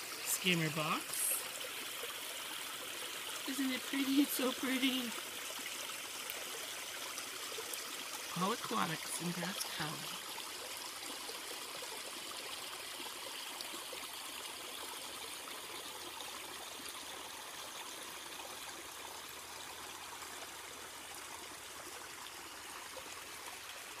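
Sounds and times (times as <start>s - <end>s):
water trickling over stones: 0.0s - 24.0s.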